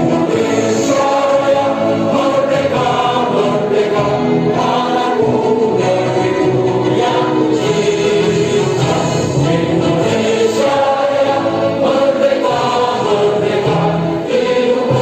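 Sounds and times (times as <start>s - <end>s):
choir singing an anthem: 0.0s - 15.0s.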